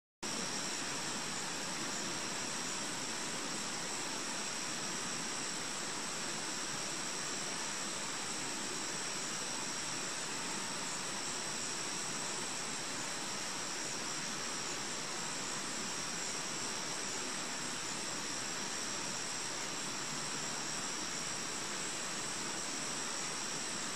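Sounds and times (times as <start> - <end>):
outdoor hiss: 0.3 - 23.9.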